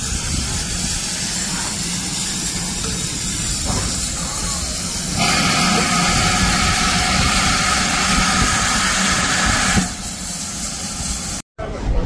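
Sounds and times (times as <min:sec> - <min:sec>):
steam locomotive hissing: 0:00.0 - 0:11.4.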